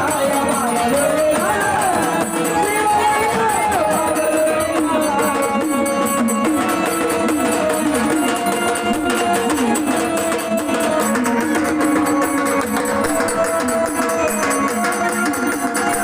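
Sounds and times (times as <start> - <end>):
plucked-string melody: 0.0 - 16.0
steady percussion beat: 0.0 - 16.0.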